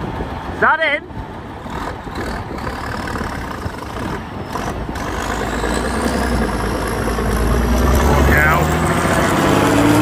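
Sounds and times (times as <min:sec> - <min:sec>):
heavy vehicle engine running: 0:00.0 - 0:10.0.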